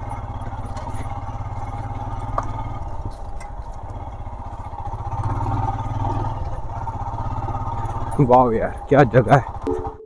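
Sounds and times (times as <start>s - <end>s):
motorcycle engine thumping: 0.0s - 8.1s.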